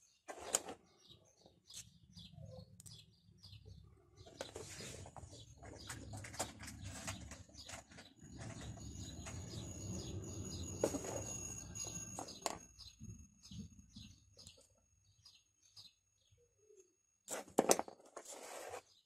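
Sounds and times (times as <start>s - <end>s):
small birds chirping: 0.0s - 17.1s.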